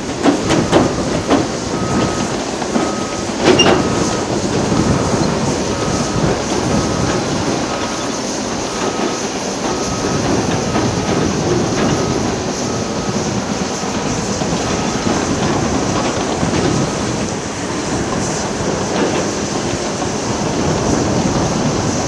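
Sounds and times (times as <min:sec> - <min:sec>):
tracked machine clattering: 0:00.0 - 0:22.0
reversing alarm beeping: 0:00.1 - 0:18.3.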